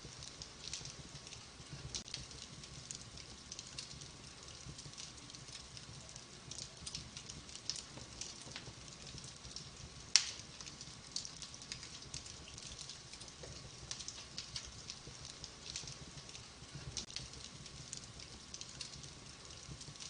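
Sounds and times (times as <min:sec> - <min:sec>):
fireplace fire crackling and popping: 0:00.0 - 0:20.0.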